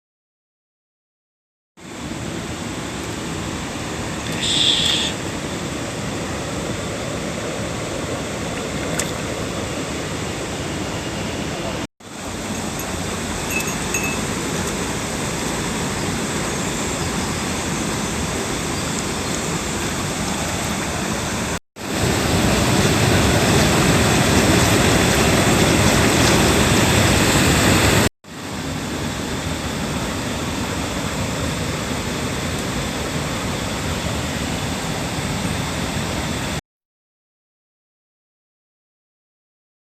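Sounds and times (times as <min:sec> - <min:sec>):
mountain stream rushing: 0:01.8 - 0:36.6.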